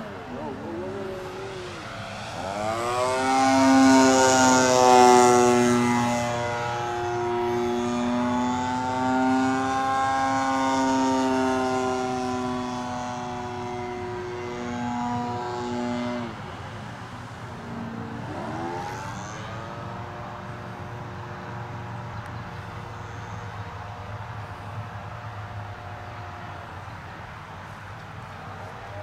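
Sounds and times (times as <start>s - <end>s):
model airplane engine overhead: 0.0s - 29.0s.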